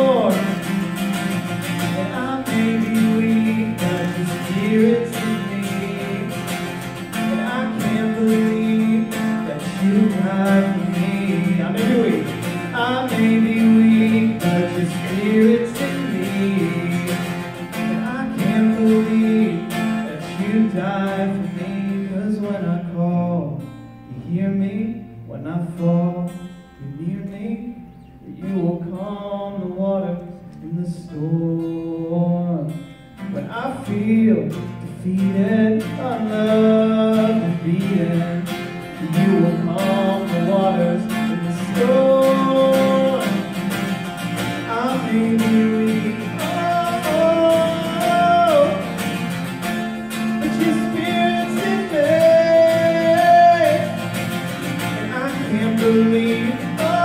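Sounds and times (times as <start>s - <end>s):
acoustic guitar strumming: 0.0s - 57.0s
man singing: 0.0s - 57.0s.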